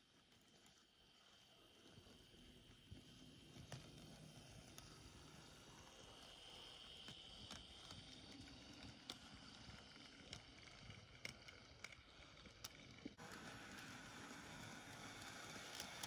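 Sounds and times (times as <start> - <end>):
faint motor whine: 0.0 - 16.0
model train wheels clicking: 0.0 - 16.0.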